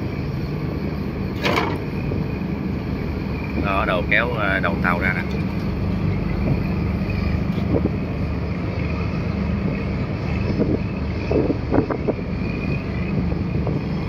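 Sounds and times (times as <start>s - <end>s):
boat engines droning: 0.0s - 14.0s
wind buffeting microphone: 0.0s - 14.0s.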